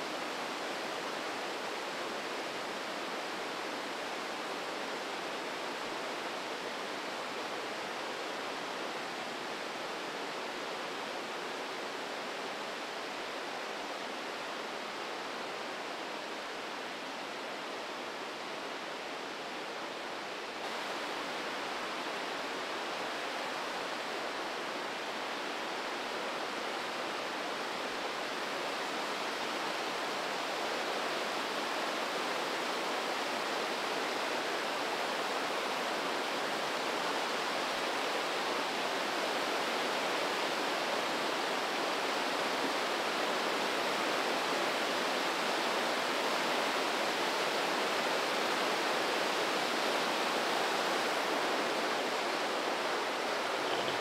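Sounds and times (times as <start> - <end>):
river rushing through gorge: 0.0 - 54.0.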